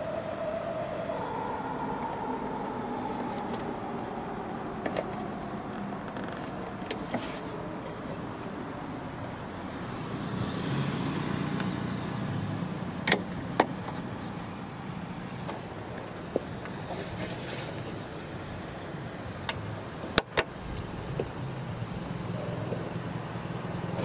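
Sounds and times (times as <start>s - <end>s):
vehicle passing: 0.0s - 16.6s, 20.8s - 24.0s.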